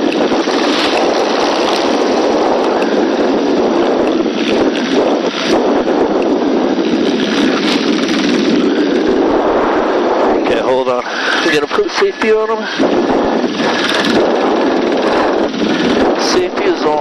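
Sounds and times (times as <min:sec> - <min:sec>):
helicopter noise: 0:00.0 - 0:17.0
wind rushing over microphone: 0:00.0 - 0:17.0.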